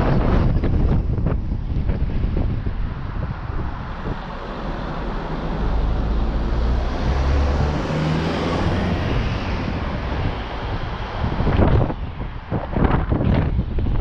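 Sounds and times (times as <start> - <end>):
van engine droning: 0.0 - 14.0
wind on microphone: 0.0 - 14.0.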